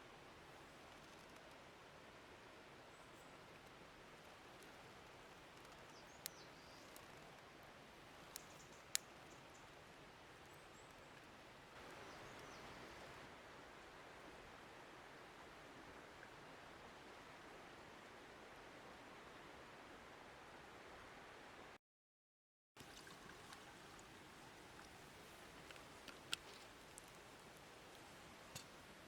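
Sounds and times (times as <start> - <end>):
faint outdoor hiss: 0.0 - 21.8, 22.8 - 29.0.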